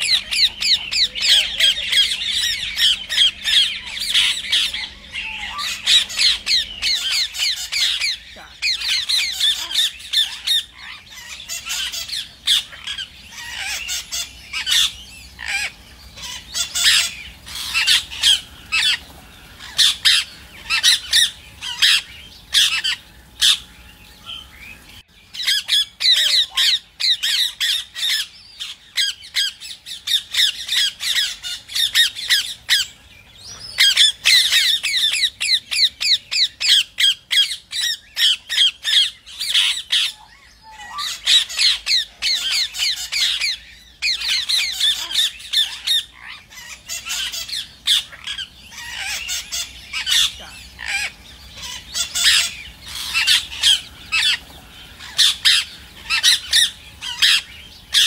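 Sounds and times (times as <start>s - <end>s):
parakeets squawking: 0.0s - 58.0s.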